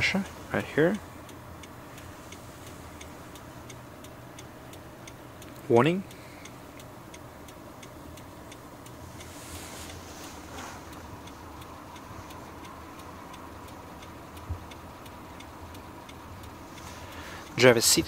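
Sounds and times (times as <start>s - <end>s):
faint steady ticking: 0.0s - 18.0s.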